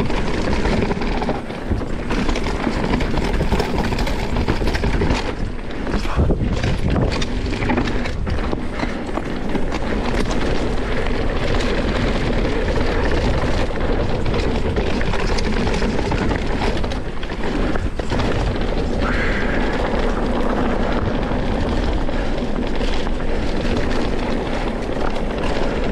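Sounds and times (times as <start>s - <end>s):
bike knocks and rattles: 0.0s - 25.9s
tyre and wind rush: 0.0s - 25.9s.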